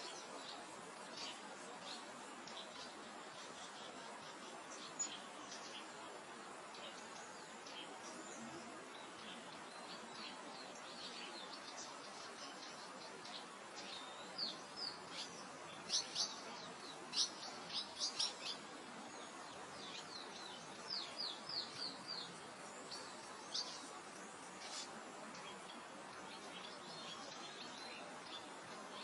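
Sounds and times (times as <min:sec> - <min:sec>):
small birds chirping: 0:00.0 - 0:29.0
wind through grass: 0:00.0 - 0:29.0.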